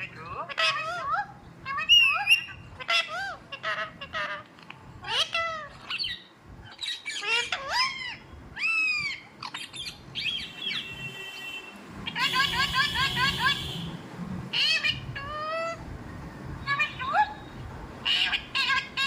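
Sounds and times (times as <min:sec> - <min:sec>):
parrot squawking and chirping: 0:00.0 - 0:13.9, 0:14.5 - 0:15.8, 0:16.6 - 0:19.0.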